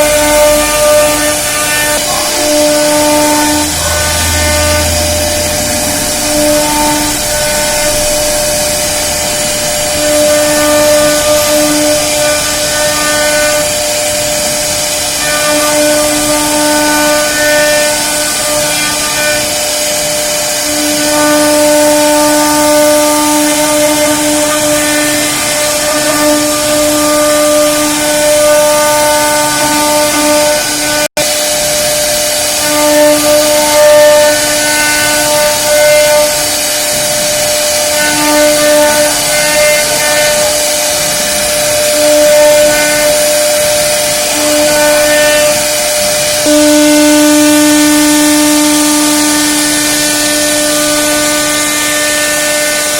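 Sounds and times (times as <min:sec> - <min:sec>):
hiss of cutting wood: 0:00.0 - 0:52.9
router spindle whining: 0:00.0 - 0:52.9.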